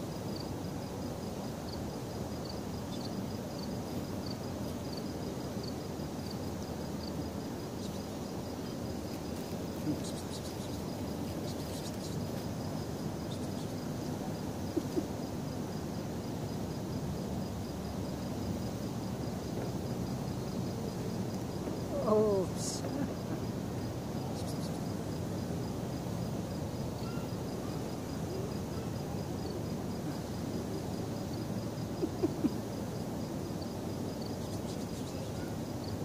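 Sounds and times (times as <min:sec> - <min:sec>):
insect chirping: 0:00.0 - 0:36.0
low background hum: 0:03.8 - 0:35.5.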